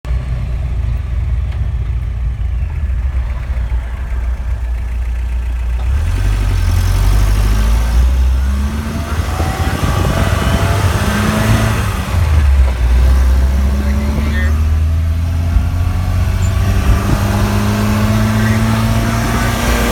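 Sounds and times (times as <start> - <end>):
vehicle drivetrain rumble: 0.0 - 19.9
rising and falling tone: 2.4 - 19.9.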